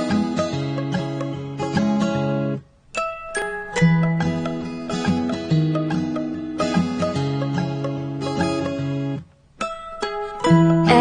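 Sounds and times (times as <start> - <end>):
plucked and chiming notes: 0.0 - 11.0.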